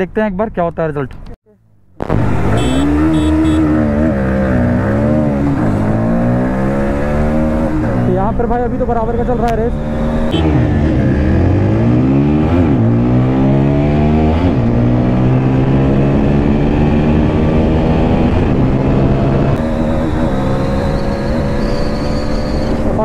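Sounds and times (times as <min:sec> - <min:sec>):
motorcycle engine revving: 0:02.0 - 0:23.0.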